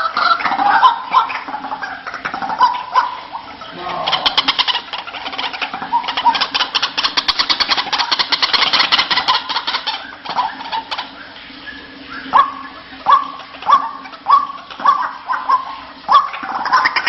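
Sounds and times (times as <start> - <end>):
bird rattling call: 0.0 - 17.0.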